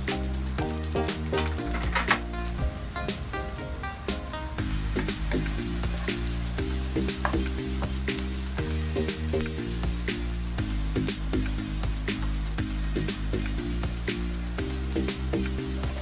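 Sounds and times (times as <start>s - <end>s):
onion sizzling in hot oil: 0.0s - 16.0s
soft background music: 0.0s - 16.0s.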